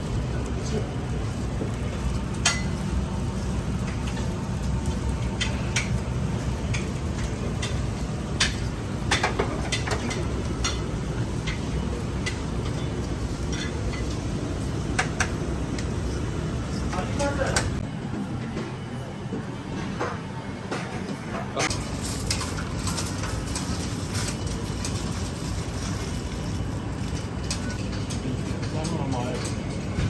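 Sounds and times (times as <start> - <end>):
steady low hum: 0.0 - 28.7
metal utensils and dishes clinking: 0.6 - 17.8, 21.6 - 30.0.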